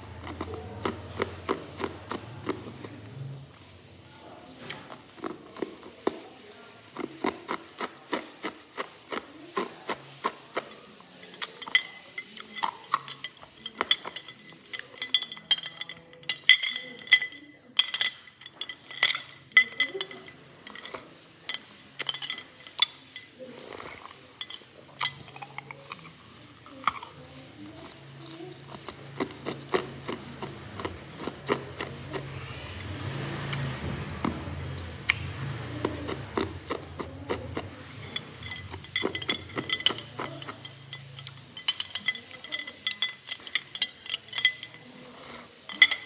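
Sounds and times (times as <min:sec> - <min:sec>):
ice being chewed: 0:00.0 - 0:03.6, 0:04.6 - 0:46.0.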